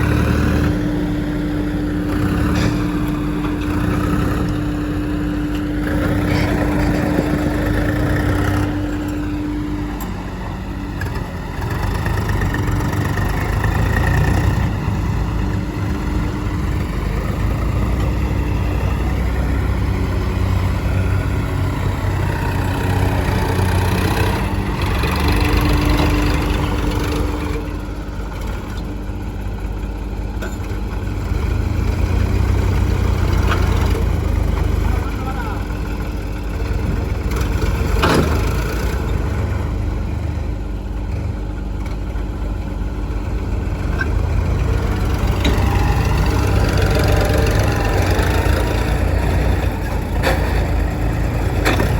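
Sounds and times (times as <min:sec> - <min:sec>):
diesel engines running: 0:00.0 - 0:51.9.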